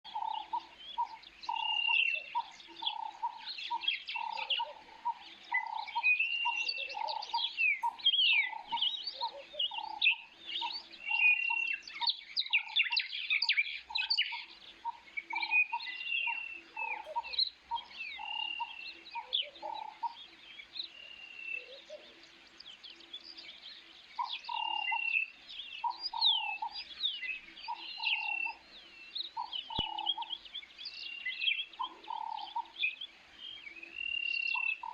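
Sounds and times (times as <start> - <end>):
birds chirping and whistling: 0.1 - 34.9.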